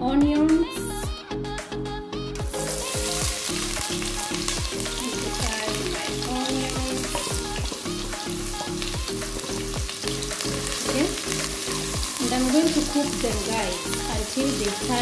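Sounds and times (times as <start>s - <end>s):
background music: 0.0s - 15.0s
onions sizzling in hot oil: 2.5s - 15.0s.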